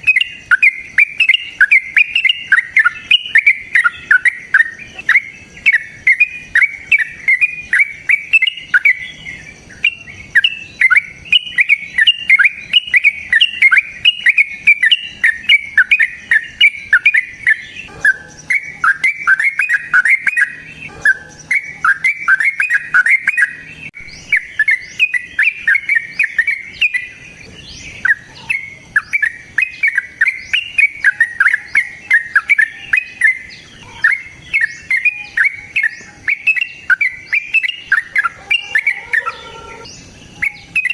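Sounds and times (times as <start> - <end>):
cage bird chattering song: 0.0 - 40.9.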